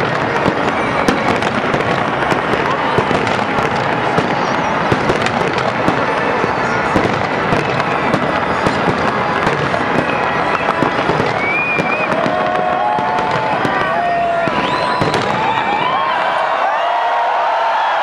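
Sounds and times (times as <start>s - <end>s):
fireworks crackling and banging: 0.0s - 17.4s
crowd calling out: 0.0s - 18.0s.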